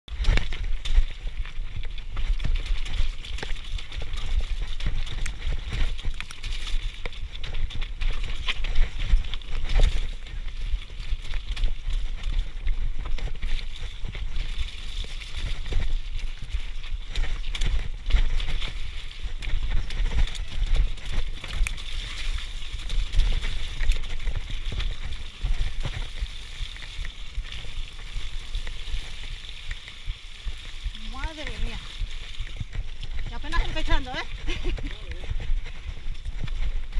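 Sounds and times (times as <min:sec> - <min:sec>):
bike tyres splashing over wet stones: 0:00.1 - 0:36.9.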